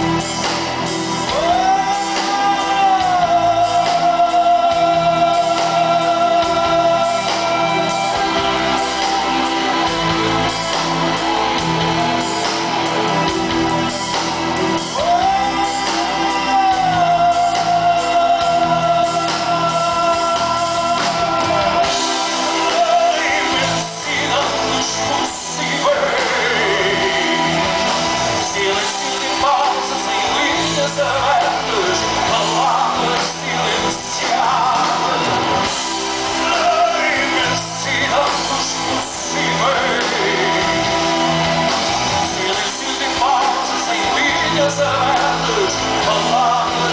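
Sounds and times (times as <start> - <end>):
man singing: 0.0 - 13.9, 14.6 - 46.9
rock band playing: 0.0 - 46.9.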